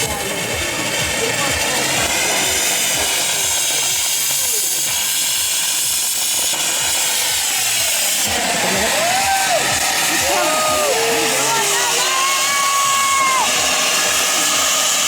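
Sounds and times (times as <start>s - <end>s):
firework hissing: 0.0s - 15.0s.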